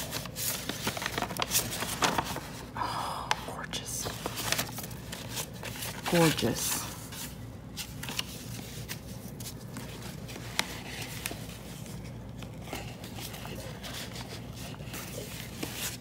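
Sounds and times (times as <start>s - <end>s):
paper rustling: 0.0s - 2.8s, 4.0s - 16.0s.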